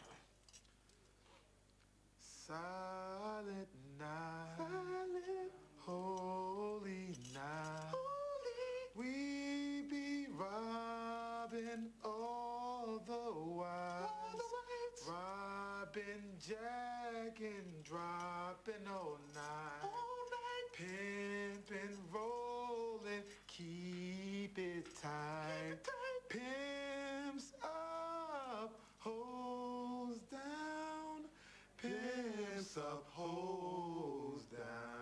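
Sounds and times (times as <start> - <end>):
men singing a cappella: 2.2 - 35.0.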